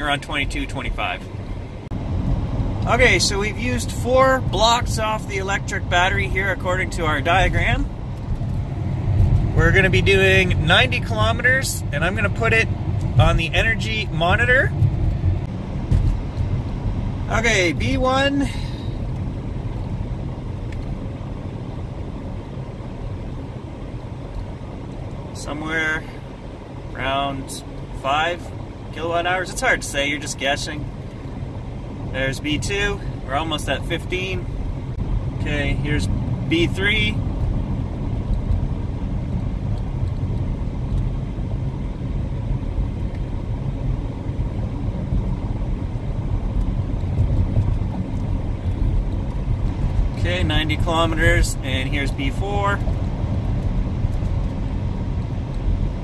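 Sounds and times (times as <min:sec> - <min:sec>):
road and tyre rumble in car cabin: 0:00.0 - 0:56.0.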